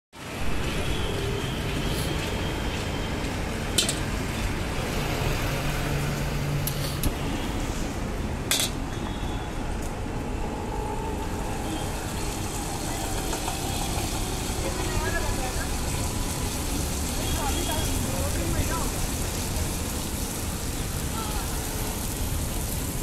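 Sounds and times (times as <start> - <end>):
rushing background noise: 0.2 - 23.0.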